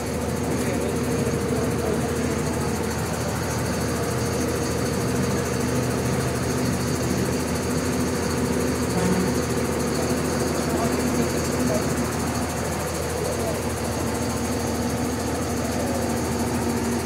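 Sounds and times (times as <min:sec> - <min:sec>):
bus diesel engine idling: 0:00.0 - 0:17.0.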